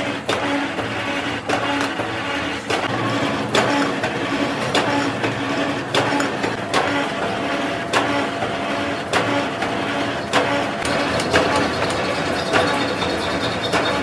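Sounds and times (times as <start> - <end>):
lathe humming: 0.0 - 14.0.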